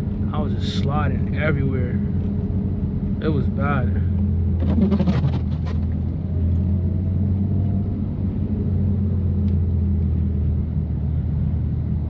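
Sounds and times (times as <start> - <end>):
car engine droning: 0.0 - 12.0
road rumble: 0.0 - 12.0.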